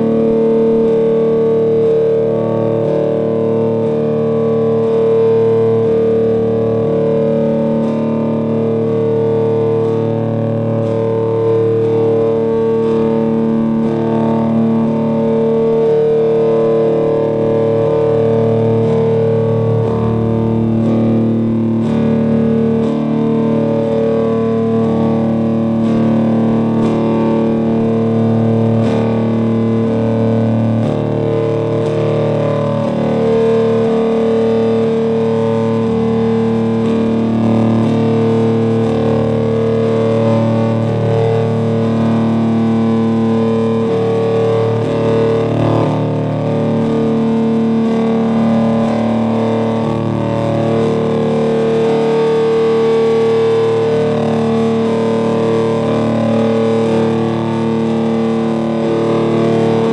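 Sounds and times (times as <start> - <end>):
music of long held notes: 0.0 - 59.9.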